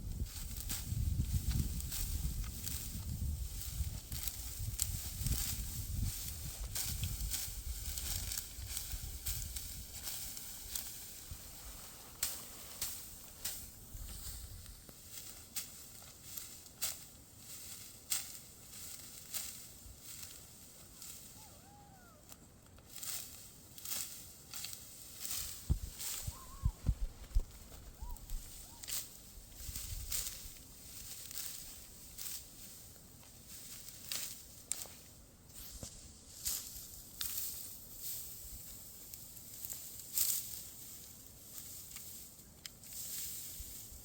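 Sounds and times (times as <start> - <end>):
dry straw crunching: 0.0 - 44.0.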